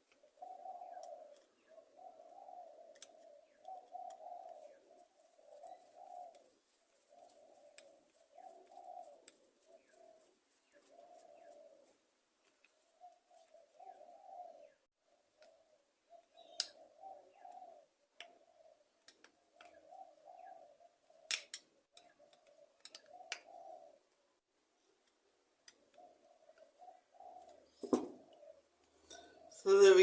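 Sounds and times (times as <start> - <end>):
dove cooing: 0.0 - 24.4, 25.7 - 30.0.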